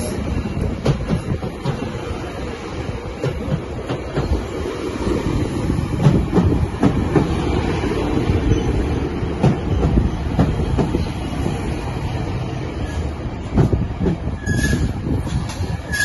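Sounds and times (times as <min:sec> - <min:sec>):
steel wheels rumbling on rail: 0:00.0 - 0:16.0.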